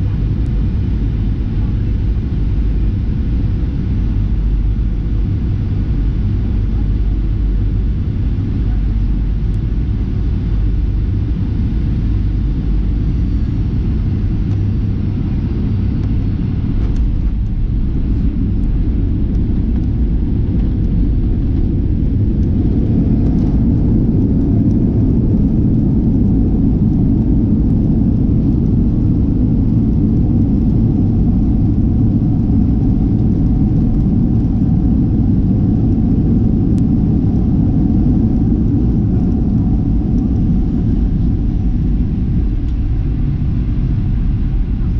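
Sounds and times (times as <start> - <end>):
jet engine cabin rumble: 0.0 - 44.9.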